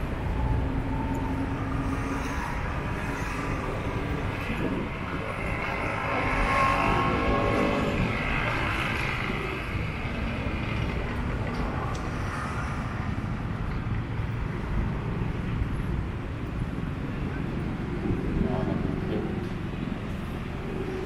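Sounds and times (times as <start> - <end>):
passing vehicles rumbling: 0.0 - 21.0.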